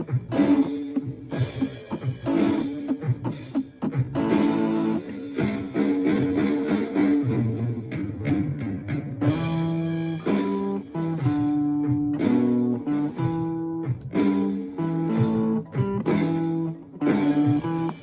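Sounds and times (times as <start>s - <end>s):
keyboard chords: 0.0s - 6.8s, 9.2s - 18.0s
rock band with guitar: 0.0s - 18.0s.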